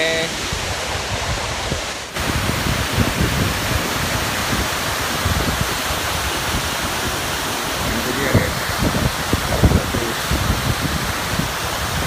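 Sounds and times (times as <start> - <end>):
waterfall crashing: 0.0 - 12.0.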